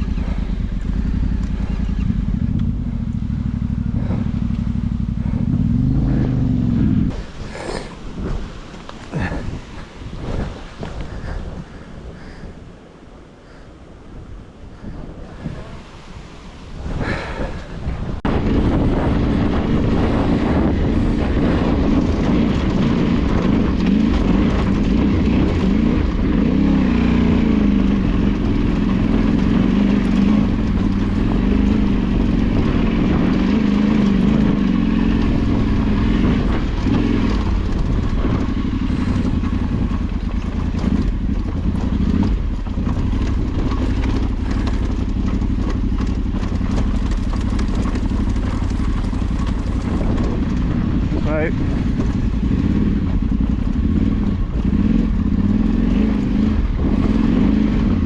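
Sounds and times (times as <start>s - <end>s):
motorcycle engine revving: 0.0s - 11.4s, 18.2s - 58.0s.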